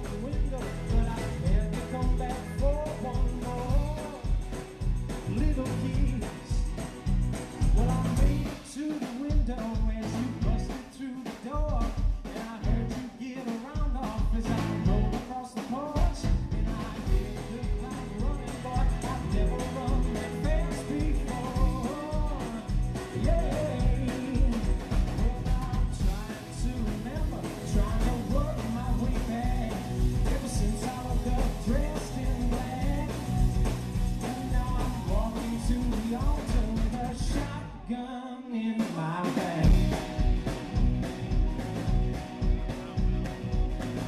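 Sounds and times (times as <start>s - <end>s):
lead vocal singing: 0.0s - 4.4s, 5.2s - 6.8s, 7.6s - 40.9s
live rock band playing: 0.0s - 37.8s, 38.8s - 44.0s.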